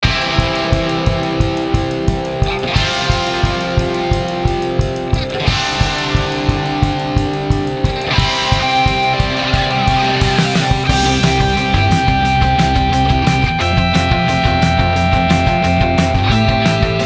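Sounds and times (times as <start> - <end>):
fast drum beat: 0.0 - 17.0
rock music with guitar: 0.0 - 17.0.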